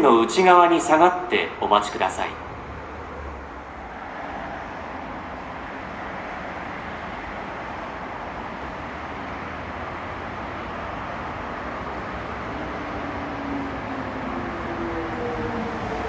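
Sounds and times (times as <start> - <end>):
train rumbling into station: 0.0 - 16.0.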